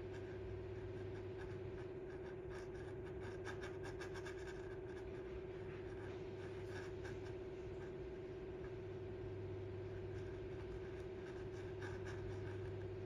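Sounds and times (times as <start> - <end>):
soldering iron scraping plastic: 0.0 - 8.9, 9.7 - 13.0
steady hum: 0.0 - 13.0.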